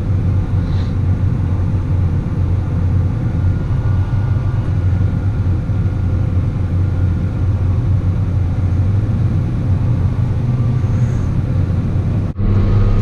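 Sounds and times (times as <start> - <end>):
farm machinery engine drone: 0.0 - 13.0.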